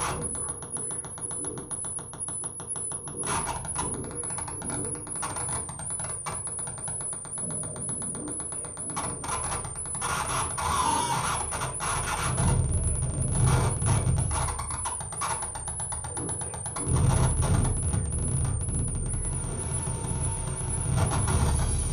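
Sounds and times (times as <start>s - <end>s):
dense crackling clicks: 0.0s - 21.9s.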